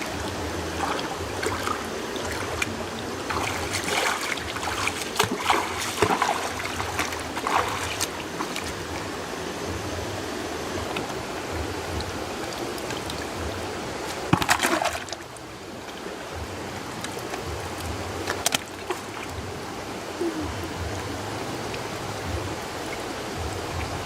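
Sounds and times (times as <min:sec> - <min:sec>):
water running and trickling: 0:00.0 - 0:24.0.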